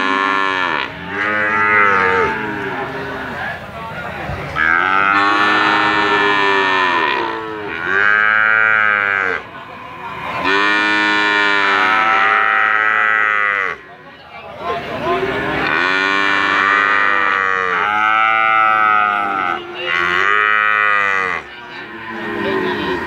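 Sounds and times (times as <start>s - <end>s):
calves mooing: 0.0s - 3.4s, 4.6s - 9.4s, 10.0s - 13.8s, 15.2s - 23.0s.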